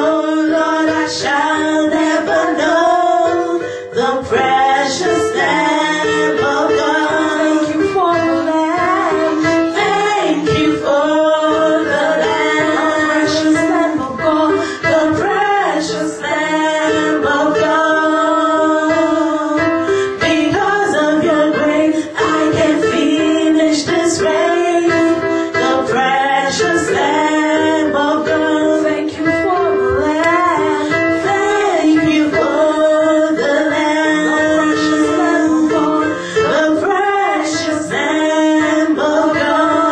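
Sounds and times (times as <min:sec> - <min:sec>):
held instrumental accompaniment: 0:00.0 - 0:39.9
women singing gospel: 0:00.0 - 0:39.9.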